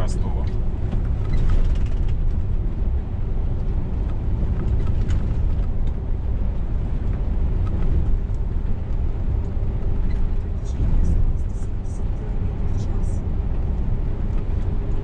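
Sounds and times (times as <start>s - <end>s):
road noise inside cab: 0.0s - 15.0s
truck engine drone: 0.0s - 15.0s.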